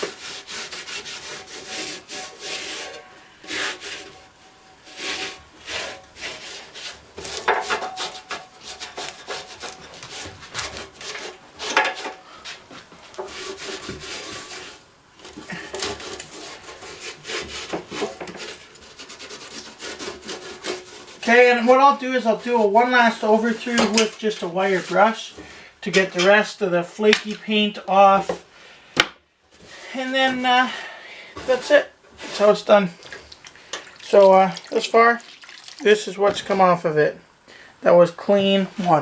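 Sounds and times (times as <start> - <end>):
rag scrubbing painted metal: 0.0 - 28.4, 29.7 - 33.0, 33.9 - 36.8.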